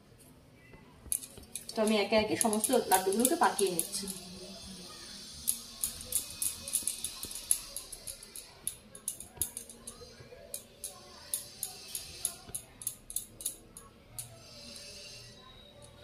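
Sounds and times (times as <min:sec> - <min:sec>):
bangles clinking: 0:01.1 - 0:16.0.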